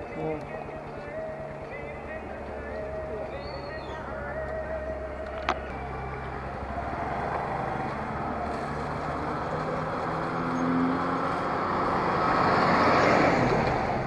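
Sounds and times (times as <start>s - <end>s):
bus engine approaching: 0.0s - 14.0s
motorcycle moving: 0.0s - 14.0s.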